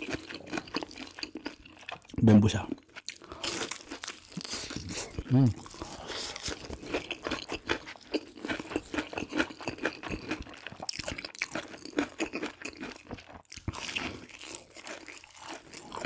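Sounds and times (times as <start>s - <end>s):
crunching fried food: 0.0s - 2.1s, 2.8s - 16.0s.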